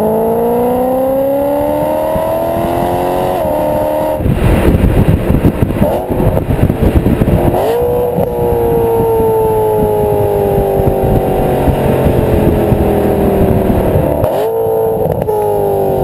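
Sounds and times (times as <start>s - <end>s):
car engine revving while driving: 0.0s - 16.0s.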